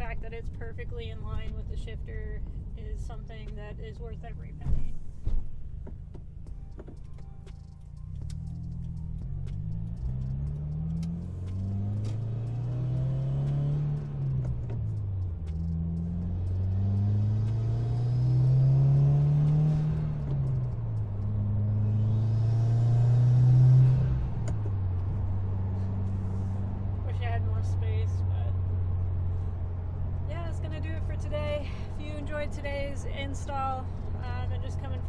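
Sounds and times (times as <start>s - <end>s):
car engine accelerating through gears: 0.0s - 35.0s.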